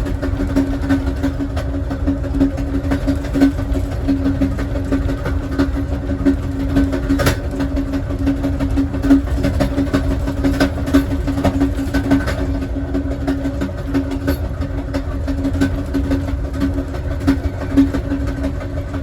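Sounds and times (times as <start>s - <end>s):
train car rumbling on track: 0.0s - 19.0s
wheels clicking on rails: 0.0s - 19.0s.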